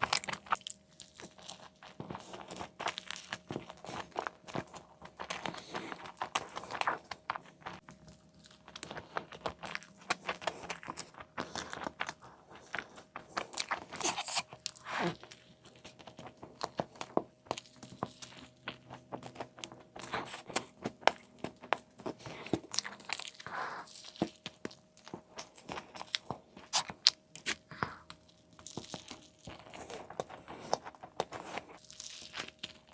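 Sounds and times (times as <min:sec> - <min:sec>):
crunchy bites into fried food: 0:00.0 - 0:32.9
wet chewing: 0:00.0 - 0:32.9.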